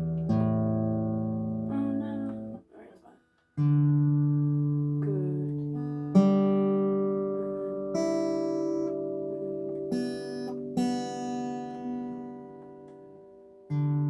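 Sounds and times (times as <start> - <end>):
acoustic guitar plucks: 0.0 - 14.0.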